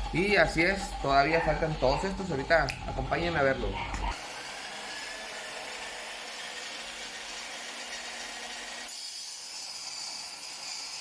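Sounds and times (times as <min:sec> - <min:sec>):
power saw cutting logs: 0:00.0 - 0:11.0.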